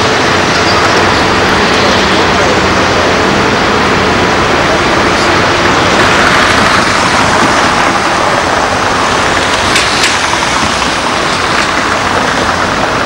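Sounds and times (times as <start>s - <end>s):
heavy machinery running: 0.0s - 13.0s.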